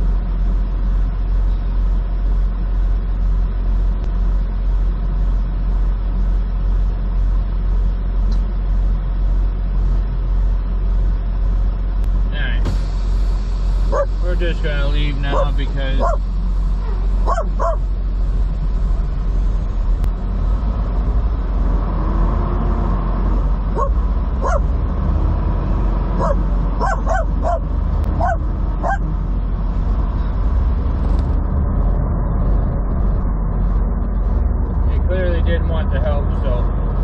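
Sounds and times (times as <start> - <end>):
diesel truck engine droning: 0.0 - 37.0.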